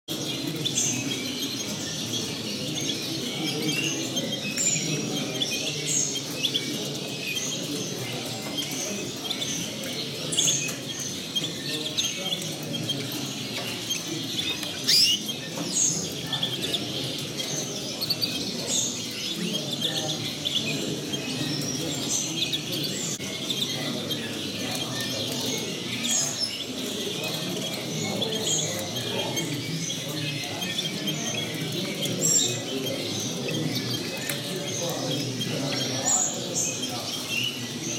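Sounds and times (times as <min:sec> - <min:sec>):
finches chirping and twittering: 0:00.1 - 0:37.9.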